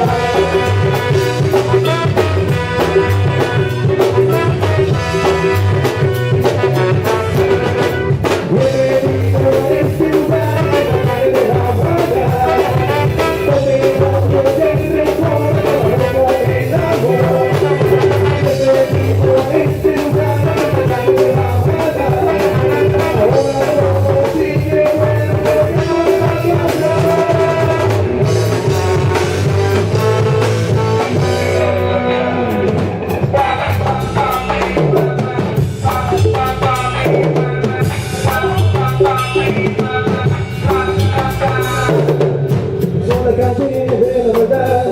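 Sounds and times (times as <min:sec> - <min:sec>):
drum rimshots: 0:00.0 - 0:44.9
ska band playing: 0:00.0 - 0:44.9.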